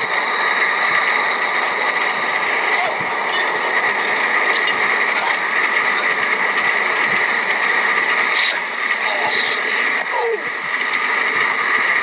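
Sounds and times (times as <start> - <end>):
train rattling on rails: 0.0 - 12.0.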